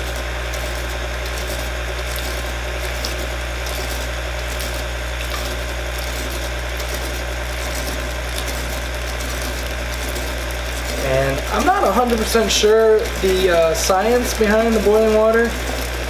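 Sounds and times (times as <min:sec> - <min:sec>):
stand mixer running: 0:00.0 - 0:16.0.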